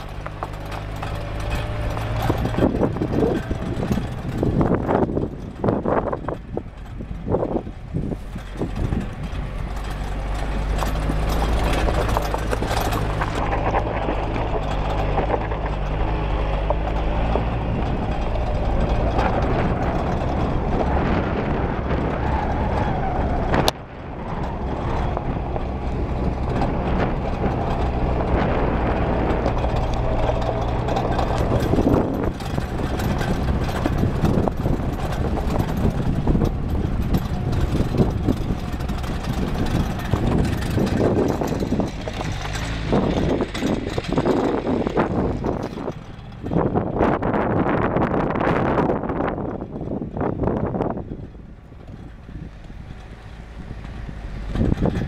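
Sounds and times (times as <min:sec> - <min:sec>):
engine running under load: 0:00.0 - 0:55.0
tyres crunching over gravel: 0:00.0 - 0:55.0
vehicle rattling: 0:00.0 - 0:55.0.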